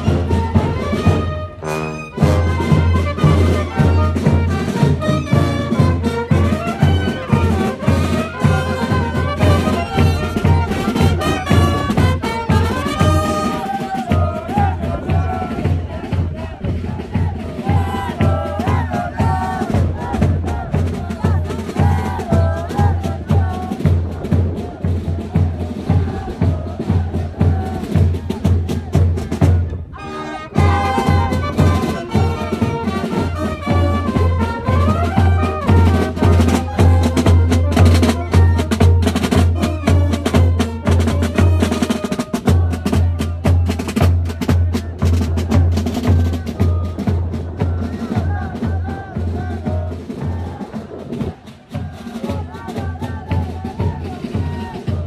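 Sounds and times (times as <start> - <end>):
steady drum beat: 0.0 - 29.9, 30.5 - 55.0
street band of drums and brass: 0.0 - 55.0.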